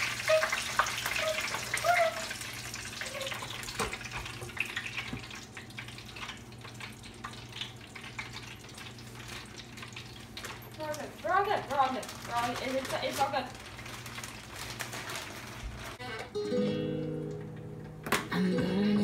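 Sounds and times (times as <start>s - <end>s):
oil sizzling in deep fryer: 0.0s - 16.0s.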